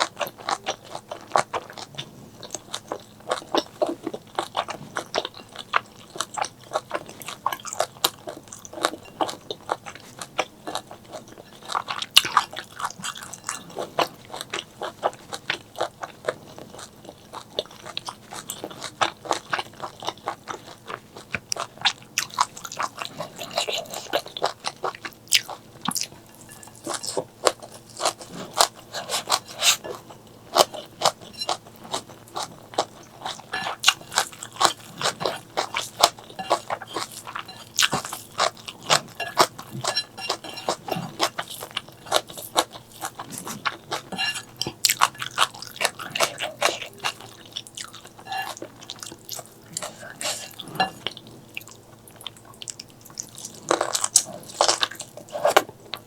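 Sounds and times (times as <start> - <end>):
chewing with crunching bites: 0.0 - 56.0.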